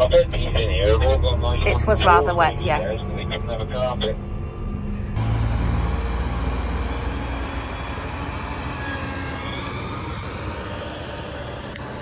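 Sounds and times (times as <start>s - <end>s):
combine harvester diesel engine: 0.0s - 4.0s, 4.8s - 12.0s.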